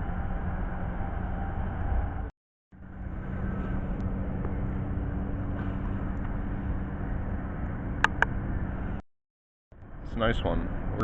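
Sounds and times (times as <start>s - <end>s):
constant hum: 0.0s - 9.0s
distant engine rumble: 0.0s - 9.0s.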